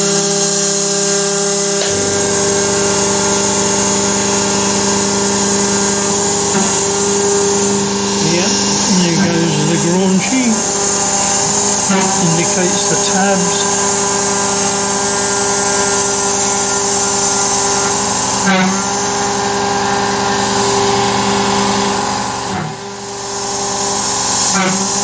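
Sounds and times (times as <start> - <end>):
cnc spindle whine: 0.0 - 25.0
air assist hiss: 1.6 - 22.7.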